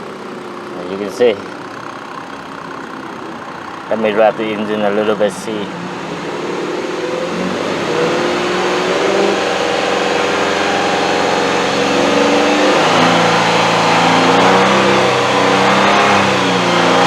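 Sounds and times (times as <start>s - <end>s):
pickup engine revving: 0.0s - 17.0s.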